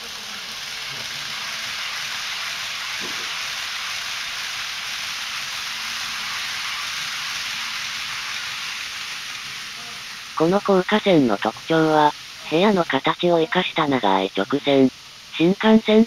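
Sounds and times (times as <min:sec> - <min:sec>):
model trains running on track: 0:00.0 - 0:16.0.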